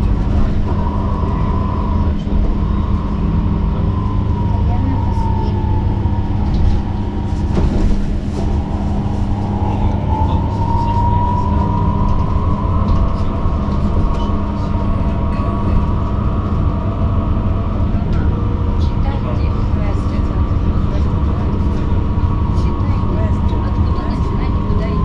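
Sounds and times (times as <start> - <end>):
bus ride rumble: 0.0 - 25.0.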